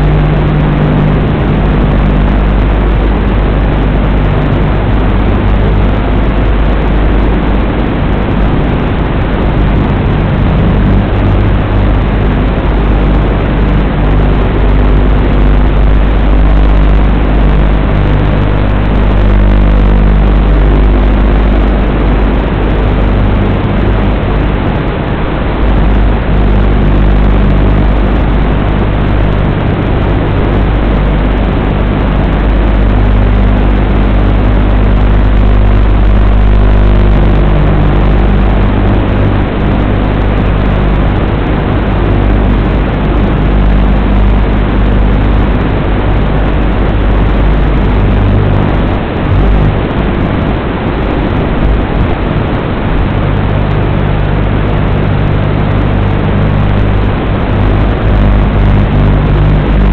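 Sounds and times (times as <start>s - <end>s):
buzzing hum with hiss: 0.0s - 59.9s.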